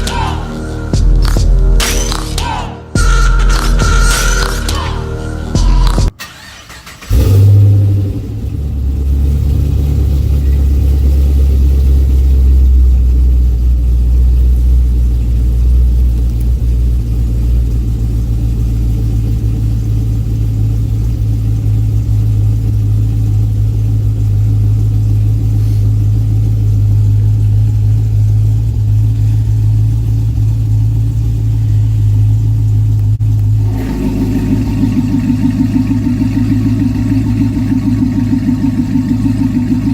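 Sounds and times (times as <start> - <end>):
car engine starting and idling: 0.0 - 39.9.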